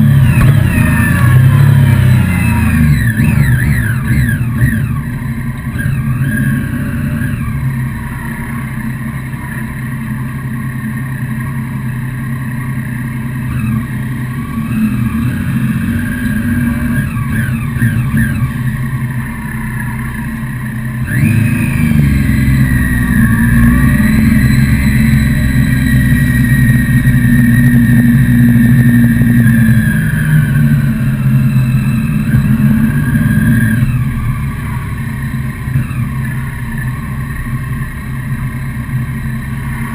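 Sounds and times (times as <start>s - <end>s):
motorcycle engine: 0.0s - 39.9s
motorcycle throttle blips: 0.0s - 39.9s.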